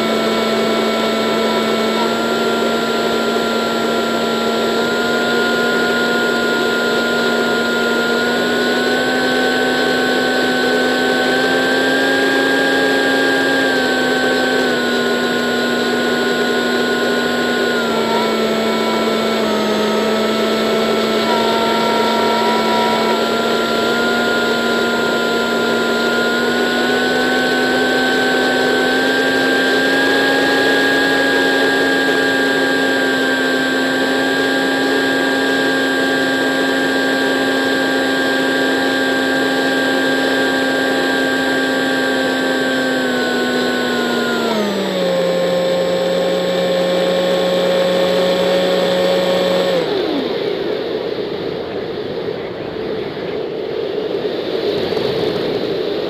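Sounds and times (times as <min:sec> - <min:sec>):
model plane motor whine: 0:00.0 - 0:56.0.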